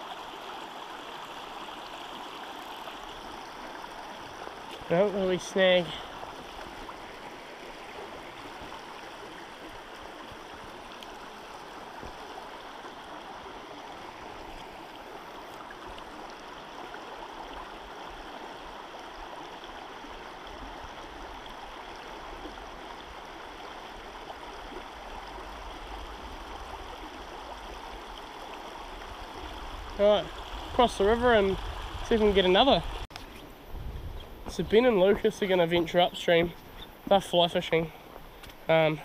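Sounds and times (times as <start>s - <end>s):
river water running over rocks: 0.0s - 39.0s.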